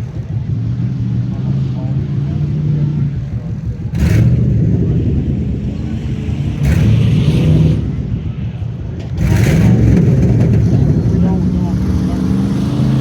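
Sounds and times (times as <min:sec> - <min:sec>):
truck engines racing: 0:00.0 - 0:13.0.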